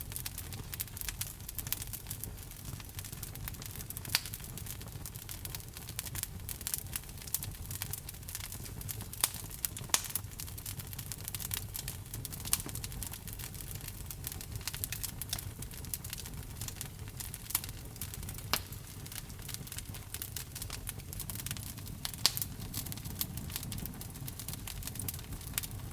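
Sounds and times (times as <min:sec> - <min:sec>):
fire pops: 0:00.0 - 0:25.9
low rumble of flames: 0:00.0 - 0:25.9
wood fire crackling: 0:00.0 - 0:25.9.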